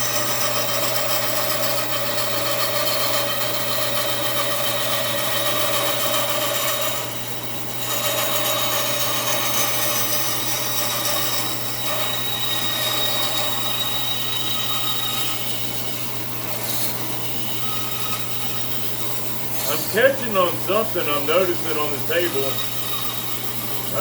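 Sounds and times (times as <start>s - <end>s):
saw blade rasping through wood: 0.0s - 7.1s, 7.8s - 15.6s, 19.6s - 24.0s
bandsaw motor hum: 0.0s - 24.0s.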